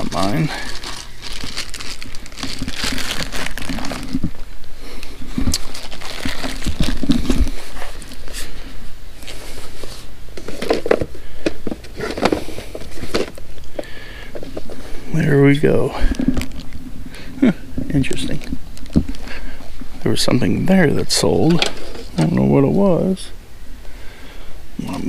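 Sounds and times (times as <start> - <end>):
merchandise crinkling and rustling: 0.0 - 23.3.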